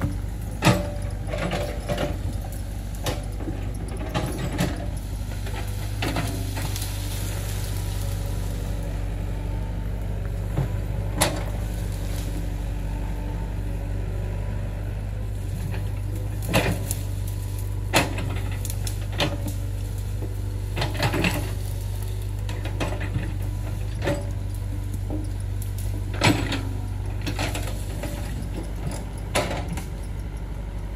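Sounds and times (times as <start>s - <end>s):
excavator engine droning: 0.0s - 30.9s.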